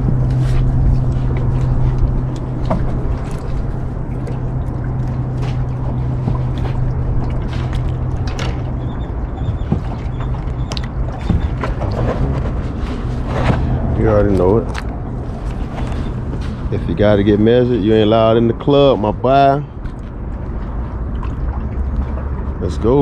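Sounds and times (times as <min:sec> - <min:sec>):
boat motor idling: 0:00.0 - 0:23.0
water sloshing: 0:00.0 - 0:23.0.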